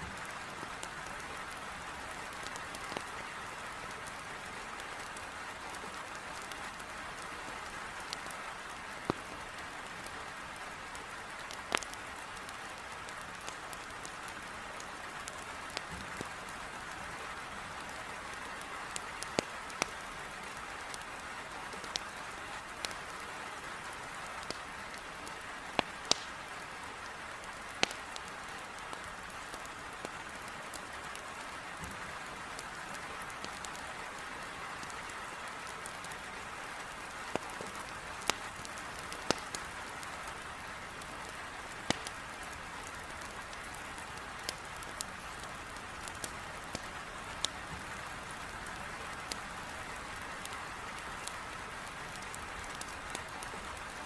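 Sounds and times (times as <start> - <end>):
heavy rain on a window: 0.0 - 54.0
wood logs crackling in fireplace: 0.0 - 54.0.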